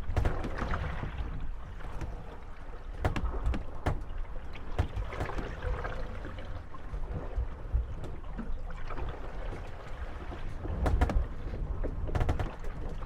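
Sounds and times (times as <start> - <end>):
water lapping: 0.0 - 13.0
wooden boat hulls knocking and creaking: 0.0 - 13.0.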